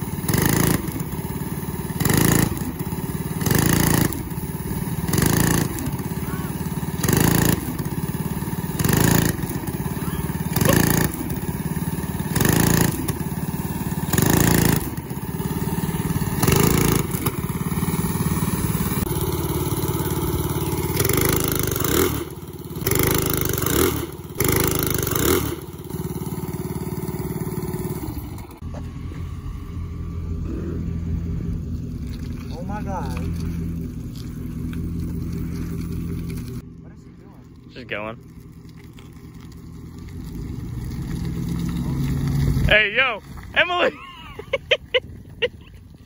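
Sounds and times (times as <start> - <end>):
go-kart engine surging: 0.0 - 46.0.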